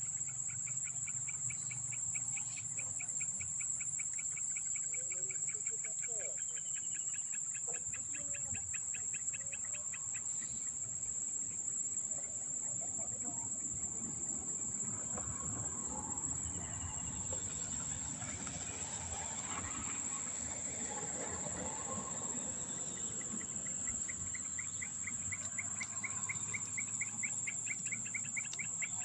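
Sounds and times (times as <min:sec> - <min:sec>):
high-pitched insect drone: 0:00.0 - 0:29.0.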